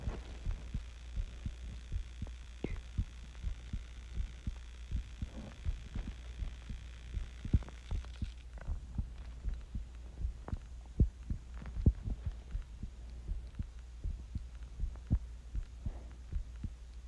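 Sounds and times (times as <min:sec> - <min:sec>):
heartbeat thumps: 0:00.0 - 0:17.0
low hum: 0:00.0 - 0:17.0.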